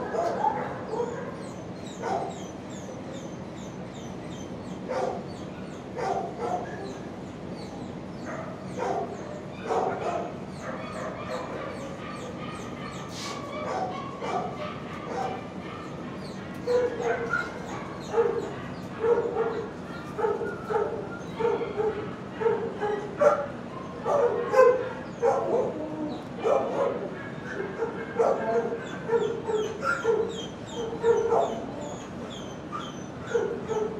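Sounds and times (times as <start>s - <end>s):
dogs barking and yipping: 0.0s - 33.9s.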